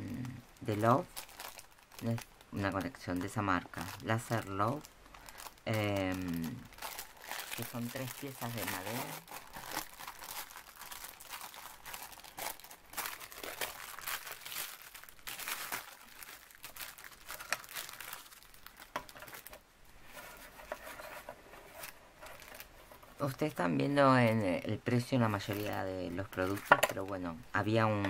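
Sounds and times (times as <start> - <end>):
plastic bag crinkling: 0.1 - 27.9.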